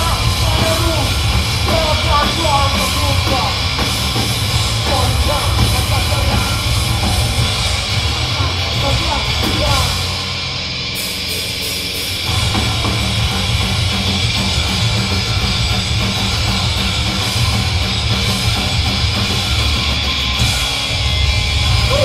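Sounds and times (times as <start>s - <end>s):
distorted electric guitar: 0.0s - 22.0s
drum kit: 0.0s - 22.0s
punk band playing live: 0.0s - 22.0s.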